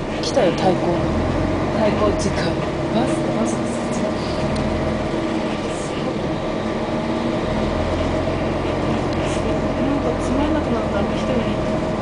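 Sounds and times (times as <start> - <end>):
vehicle engine rumble from inside: 0.0 - 12.0.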